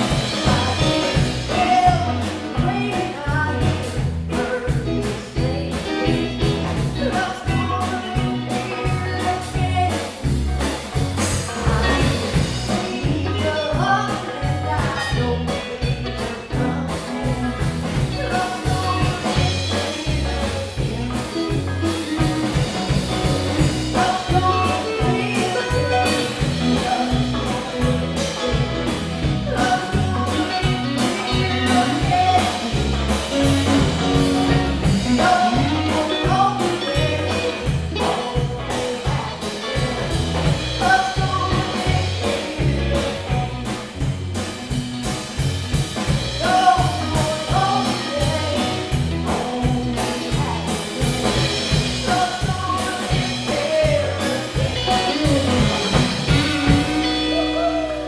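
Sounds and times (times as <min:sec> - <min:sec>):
woman singing lead: 0:00.0 - 0:10.5, 0:11.2 - 0:44.1, 0:46.1 - 0:58.0
bass: 0:00.0 - 0:58.0
drums: 0:00.0 - 0:58.0
electric guitars: 0:00.0 - 0:58.0.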